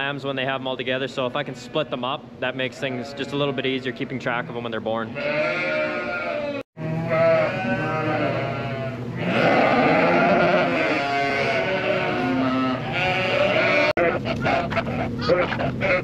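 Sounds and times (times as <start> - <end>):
sheep bleating: 2.6 - 16.0.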